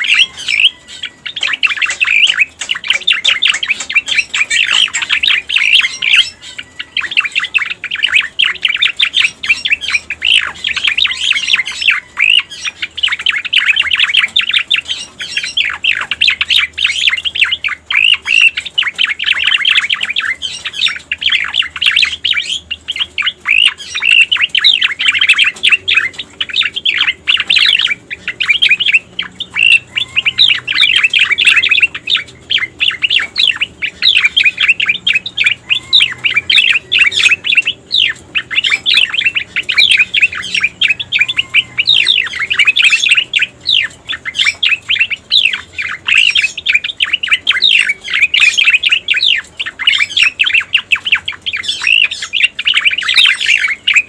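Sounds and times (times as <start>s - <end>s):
bird song with rapid chirps: 0.0s - 54.0s.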